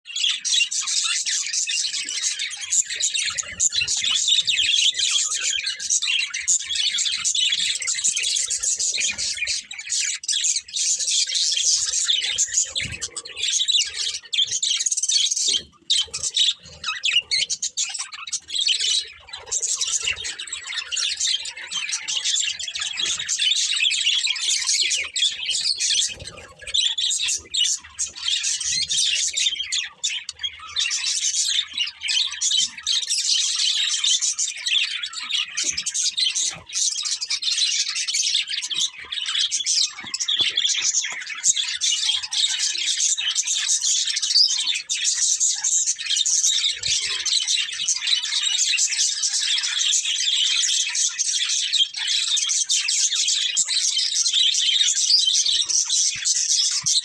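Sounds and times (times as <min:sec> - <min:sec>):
budgerigars chirping: 0:00.1 - 0:57.0.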